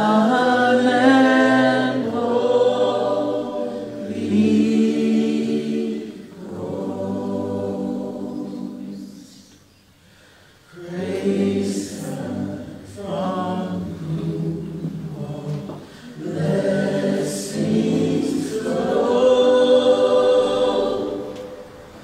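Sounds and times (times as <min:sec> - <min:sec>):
church choir singing: 0:00.0 - 0:09.6, 0:10.6 - 0:22.0.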